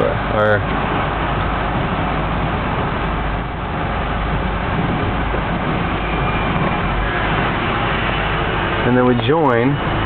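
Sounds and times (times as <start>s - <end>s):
road noise hiss: 0.0s - 10.0s
van engine rumble: 0.0s - 10.0s.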